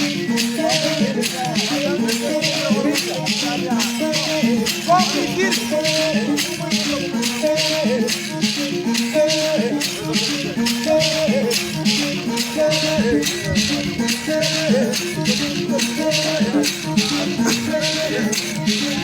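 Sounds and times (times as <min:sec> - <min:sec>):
instrumental melody: 0:00.0 - 0:19.0
shaker beat: 0:00.0 - 0:19.0.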